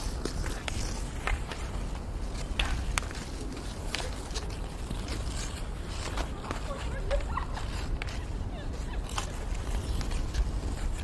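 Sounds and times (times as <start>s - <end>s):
hockey sticks clacking: 0.0s - 11.0s.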